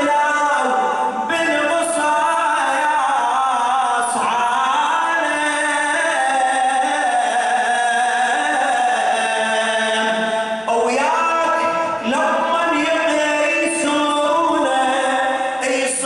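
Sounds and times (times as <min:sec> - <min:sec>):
man chanting unaccompanied: 0:00.0 - 0:16.0.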